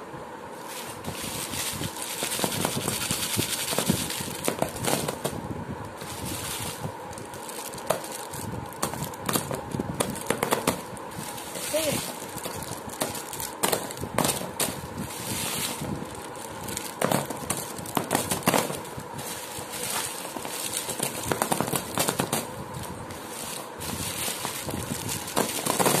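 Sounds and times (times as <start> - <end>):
sweet wrappers crinkling: 0.7 - 5.3, 6.0 - 26.0.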